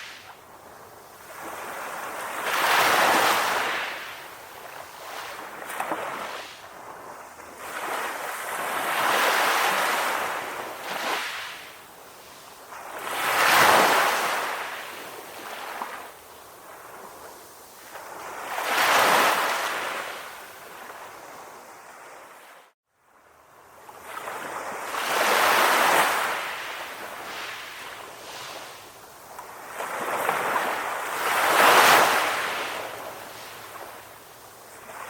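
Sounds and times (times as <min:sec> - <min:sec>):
ocean waves breaking: 0:00.0 - 0:22.2, 0:24.0 - 0:35.0.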